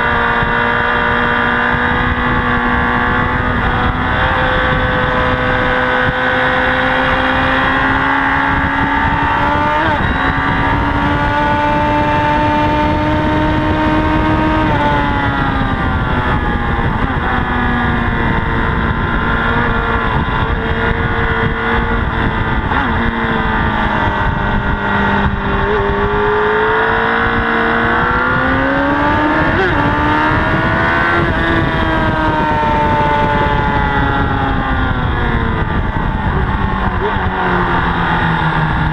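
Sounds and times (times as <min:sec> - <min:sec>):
motorcycle engine revving high: 0:00.0 - 0:38.9.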